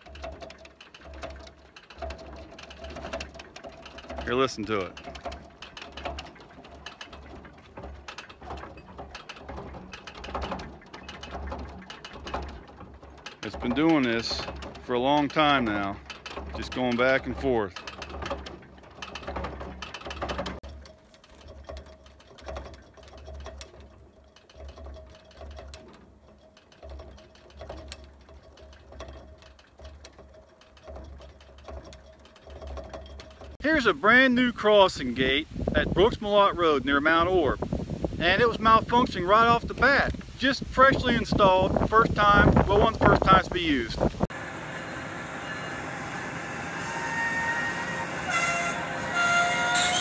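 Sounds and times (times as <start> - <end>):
crossing gate clicking and rattling: 0.0 - 50.0.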